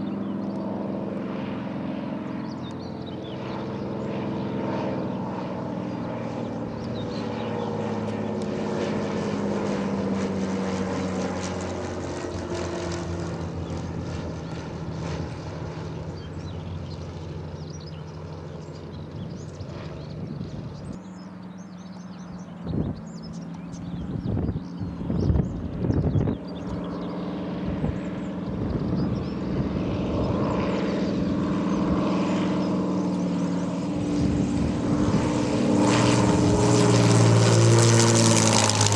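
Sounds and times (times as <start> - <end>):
propeller aircraft passing overhead: 0.0 - 38.9.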